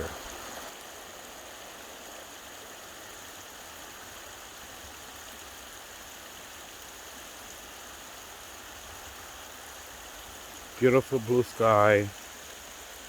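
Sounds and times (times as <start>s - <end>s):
brook water babbling: 0.0s - 13.0s.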